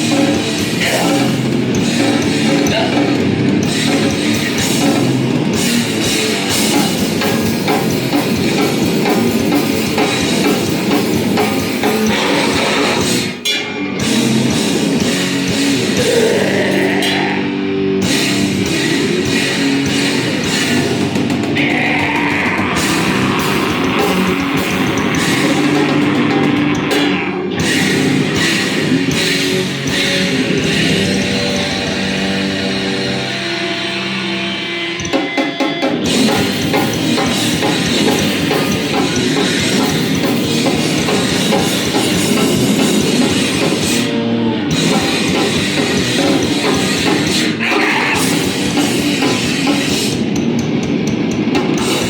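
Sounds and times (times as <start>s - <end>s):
guitar sliding up in pitch: 0.0s - 50.9s
live heavy band playing: 0.0s - 52.0s.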